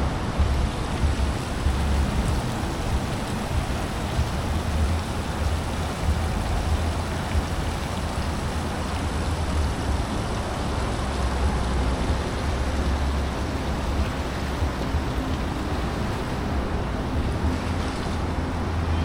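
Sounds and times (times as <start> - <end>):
steady rushing noise: 0.0 - 19.0
wind rumble on microphone: 0.0 - 19.0.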